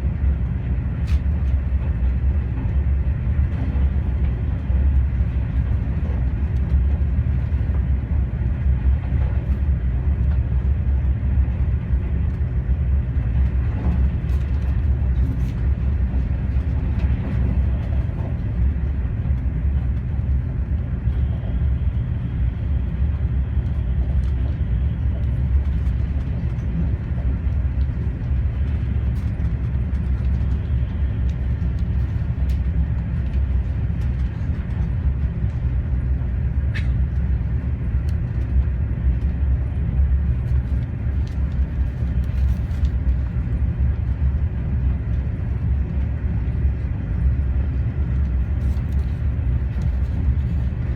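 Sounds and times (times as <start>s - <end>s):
train rumble inside cabin: 0.0s - 50.9s.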